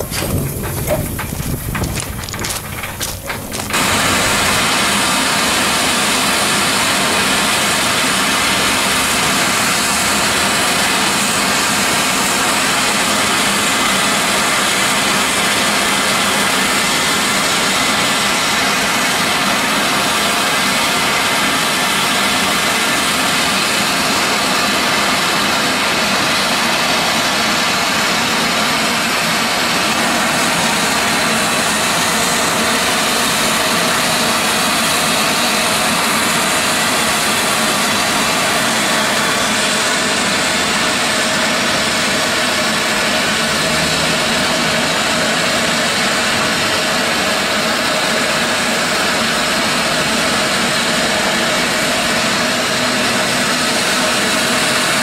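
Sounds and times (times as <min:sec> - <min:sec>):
loud steam hiss: 0:00.0 - 0:55.0.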